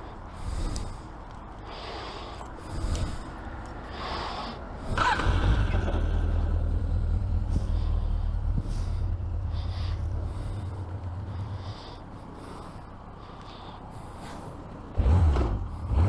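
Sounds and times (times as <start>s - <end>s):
heavy breathing: 0.0s - 15.0s
motorcycle engine rumble: 2.3s - 16.0s.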